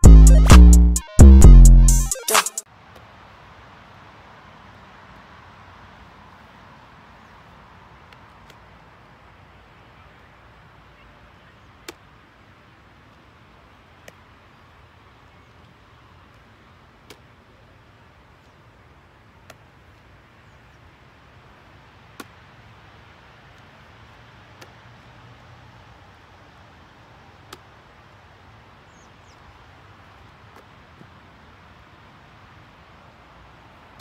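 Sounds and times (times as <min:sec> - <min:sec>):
outdoor background noise: 0:02.4 - 0:34.0.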